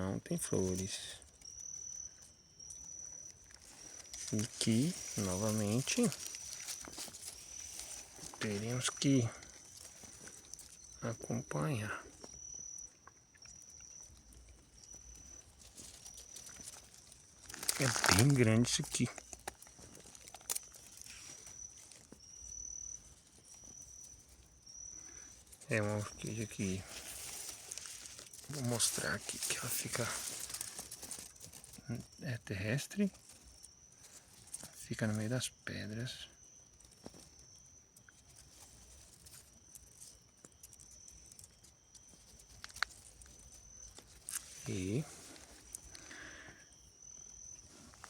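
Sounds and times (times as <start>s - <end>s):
faint outdoor night ambience: 0.0s - 48.0s
insect trilling: 0.0s - 48.0s
faint clicks and rustles: 0.6s - 11.4s, 12.0s - 32.2s, 36.3s - 48.0s.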